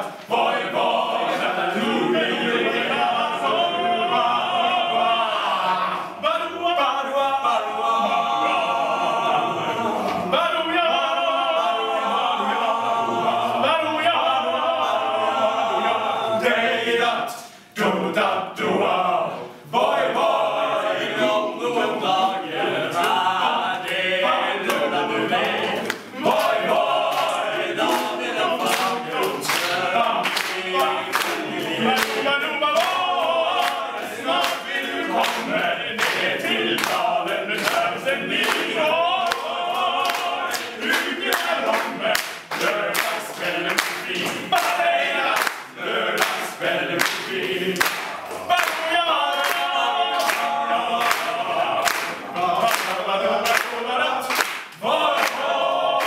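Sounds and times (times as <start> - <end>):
a cappella group singing: 0.0 - 56.0.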